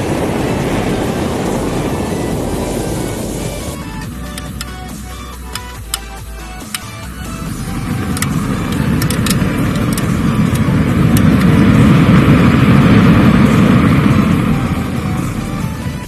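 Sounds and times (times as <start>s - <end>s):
jet flame rushing roar: 0.0s - 16.0s.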